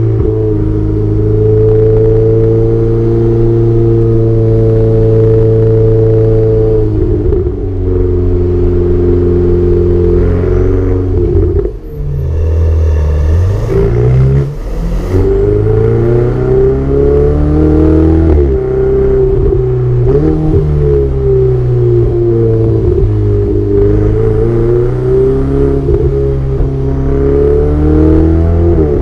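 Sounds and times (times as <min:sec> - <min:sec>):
sports car engine revving: 0:00.0 - 0:29.0.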